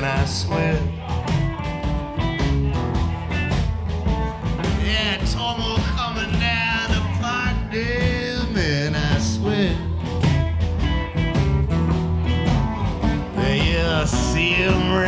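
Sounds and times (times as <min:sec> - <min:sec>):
bass guitar: 0:00.0 - 0:15.0
drums: 0:00.0 - 0:15.0
electric guitar: 0:00.0 - 0:15.0
strummed acoustic guitar: 0:00.0 - 0:15.0.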